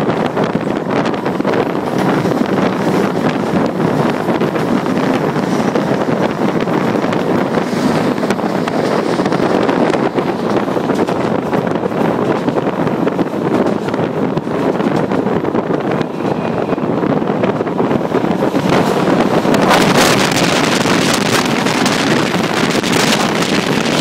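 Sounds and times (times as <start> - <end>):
train running on track: 0.0 - 24.0
wind buffeting microphone: 0.0 - 24.0.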